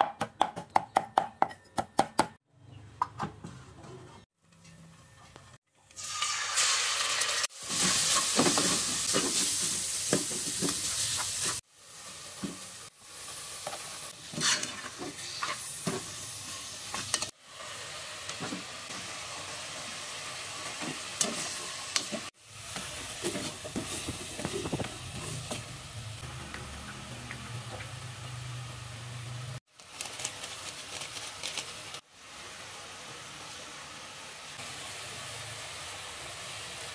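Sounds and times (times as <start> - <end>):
oil sizzling in a pot: 5.8 - 36.9.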